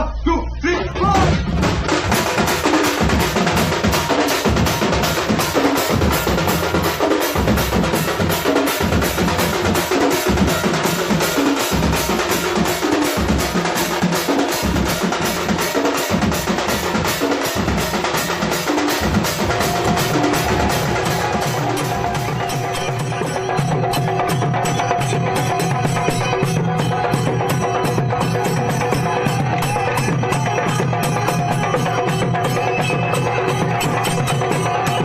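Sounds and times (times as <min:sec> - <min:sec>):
music with driving drum beat: 0:00.7 - 0:35.0.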